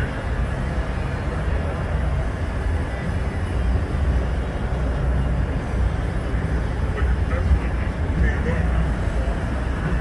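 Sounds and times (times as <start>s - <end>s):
diesel truck engines idling: 0.0s - 10.0s.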